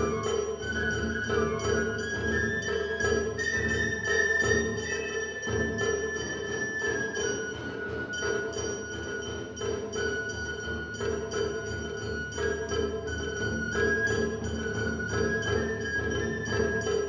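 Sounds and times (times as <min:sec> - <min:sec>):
bamboo flute long notes: 0:00.0 - 0:17.0
taiko drums beating: 0:00.0 - 0:17.0.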